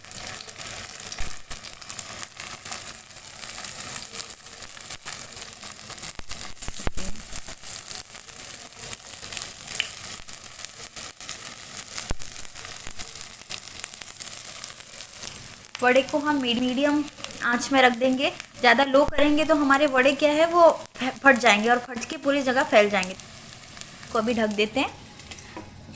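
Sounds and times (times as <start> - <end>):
food sizzling in oil: 0.0 - 25.9.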